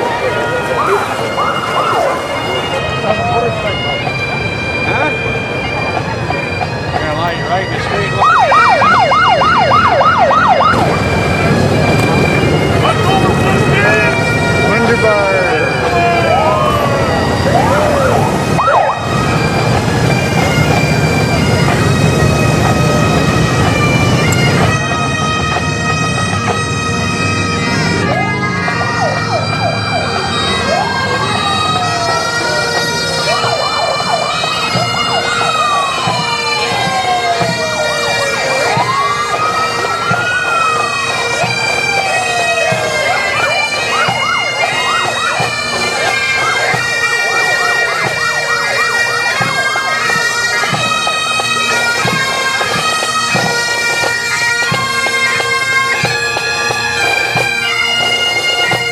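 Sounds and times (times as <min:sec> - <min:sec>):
bagpipes playing marching tune: 0:00.0 - 0:58.9
siren wailing: 0:00.0 - 0:58.9.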